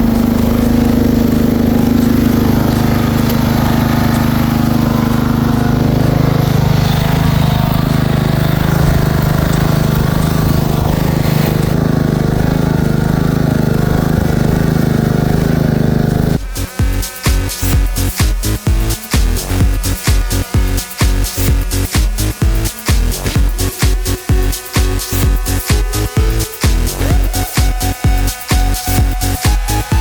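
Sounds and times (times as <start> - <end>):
lawn mower engine running: 0.0 - 30.0.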